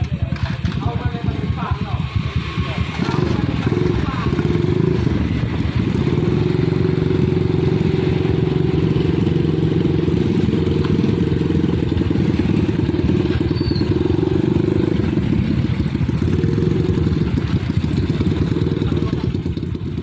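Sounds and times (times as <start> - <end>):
motorcycle engines idling: 0.0 - 20.0.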